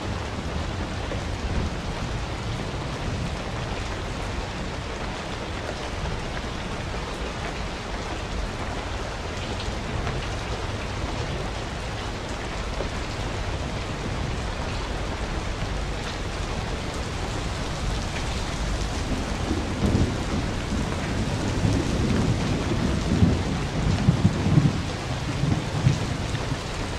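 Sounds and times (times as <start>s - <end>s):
small waterfall rushing: 0.0s - 26.9s.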